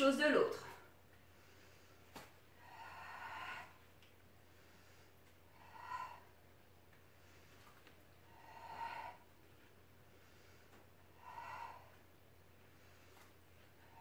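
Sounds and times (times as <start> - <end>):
woman breathing hard: 1.1 - 14.0.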